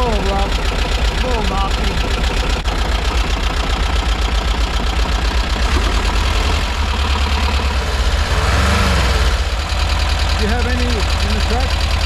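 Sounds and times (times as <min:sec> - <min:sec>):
rough knocky engine idling: 0:00.0 - 0:12.0.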